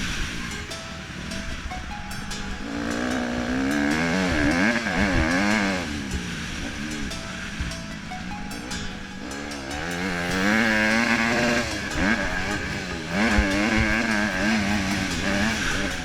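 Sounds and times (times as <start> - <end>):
dirt bike engine revving: 2.6 - 16.0.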